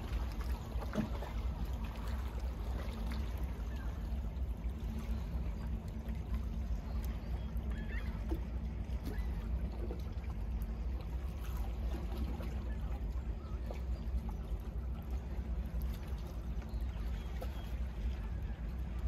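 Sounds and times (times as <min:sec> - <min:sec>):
steady low rumble: 0:00.0 - 0:19.0
water lapping against rock: 0:00.0 - 0:19.0.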